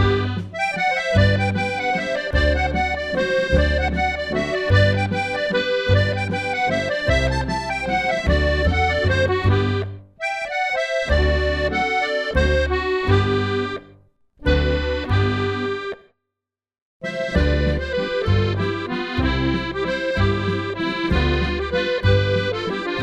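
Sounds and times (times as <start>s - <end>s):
accordion folk dance tune: 0.0s - 16.1s, 17.0s - 23.0s.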